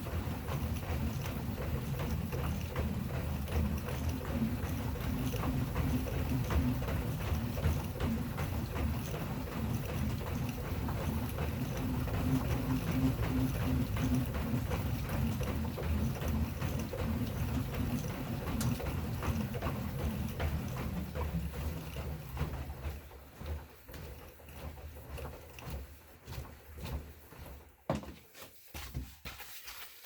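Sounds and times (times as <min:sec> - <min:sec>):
treadmill creaking and thudding: 0:00.0 - 0:29.8.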